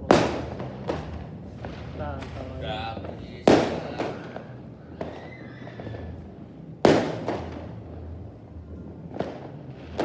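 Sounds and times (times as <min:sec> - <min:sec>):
fireworks exploding: 0:00.0 - 0:06.2, 0:06.8 - 0:07.8, 0:09.1 - 0:10.0.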